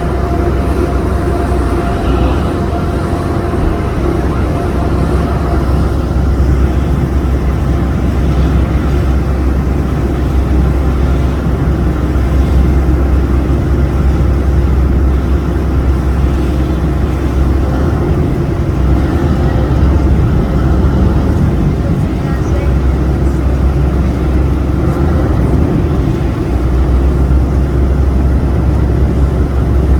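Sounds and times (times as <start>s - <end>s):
boat engine rumbling: 0.0s - 29.9s.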